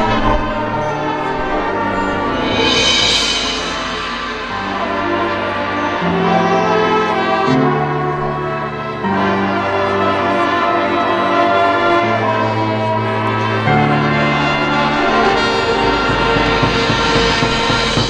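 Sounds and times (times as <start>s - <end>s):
marching band brass chords: 0.0s - 18.0s.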